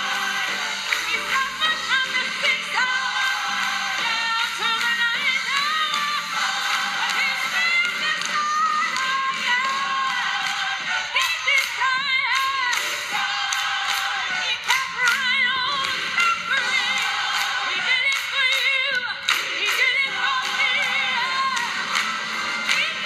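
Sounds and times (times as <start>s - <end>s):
music with sharp percussive hits: 0.0s - 23.0s.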